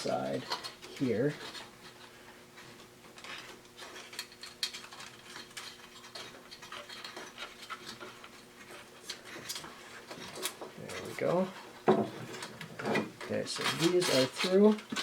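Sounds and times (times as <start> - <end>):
faint steady hum: 0.0 - 15.0
wires clicking and rubbing on plastic: 0.0 - 15.0.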